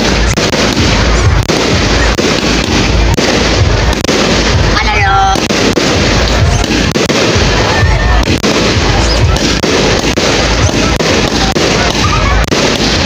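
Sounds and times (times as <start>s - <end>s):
fireworks bangs and bursts: 0.0s - 13.0s.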